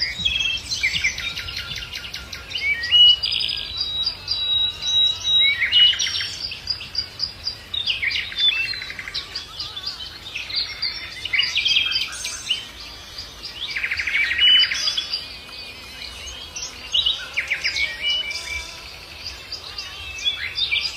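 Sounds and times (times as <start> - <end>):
songbirds singing and calling: 0.0 - 20.9.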